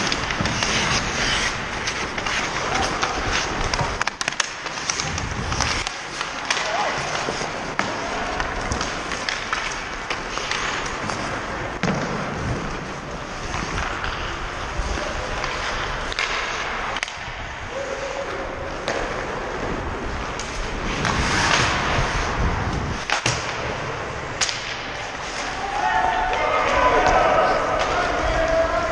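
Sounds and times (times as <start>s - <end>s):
skate blades scraping on ice: 0.0s - 24.0s, 24.7s - 25.7s
hockey sticks and puck clacking: 0.0s - 28.9s.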